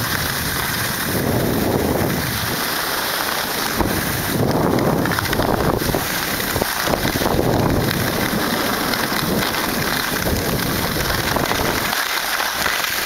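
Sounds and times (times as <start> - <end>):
wind buffeting microphone: 0.0 - 12.0
skis scraping over snow: 0.0 - 13.0.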